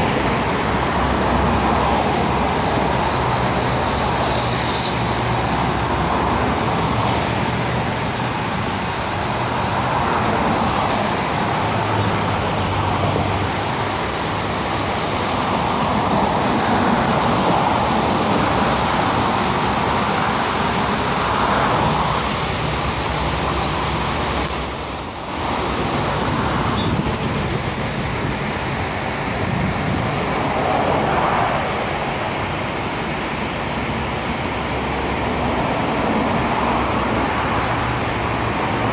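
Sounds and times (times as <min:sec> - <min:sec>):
cars passing: 0:00.0 - 0:38.9
river water pouring over dam: 0:00.0 - 0:38.9
road traffic rushing: 0:00.0 - 0:38.9.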